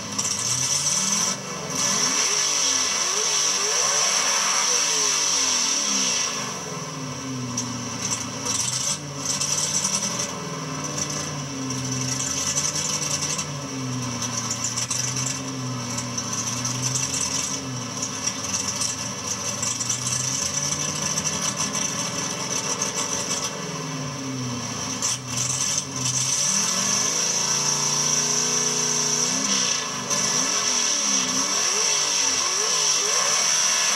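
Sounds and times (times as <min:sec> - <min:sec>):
car engine idling roughly: 0:00.0 - 0:06.0, 0:06.6 - 0:33.9.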